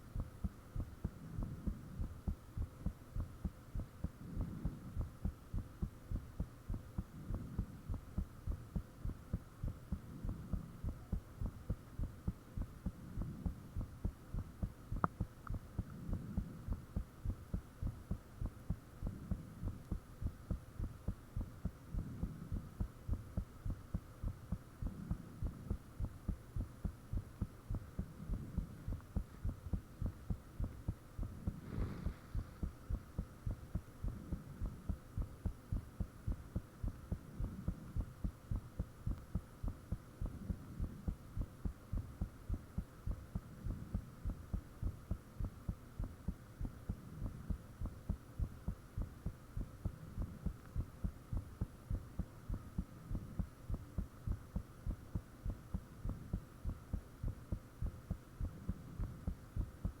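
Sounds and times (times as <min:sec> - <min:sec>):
faint steady hum: 0:00.0 - 1:00.0
heartbeat thumps: 0:00.0 - 1:00.0.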